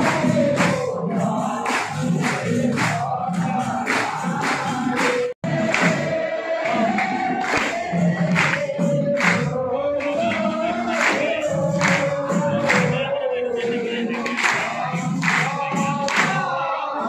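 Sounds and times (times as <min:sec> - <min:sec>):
men chanting in unison: 0:00.0 - 0:17.0
rhythmic hand clapping: 0:00.0 - 0:17.0.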